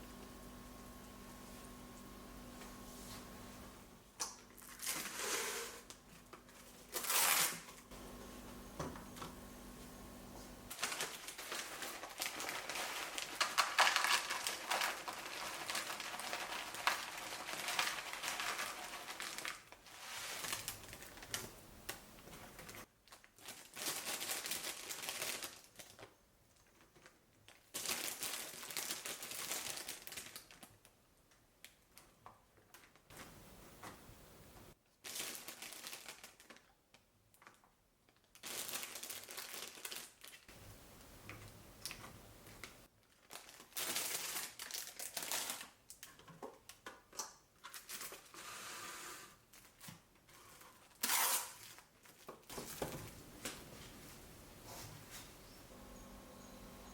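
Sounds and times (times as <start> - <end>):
crinkling and rustling: 1.6 - 48.5, 49.4 - 56.9.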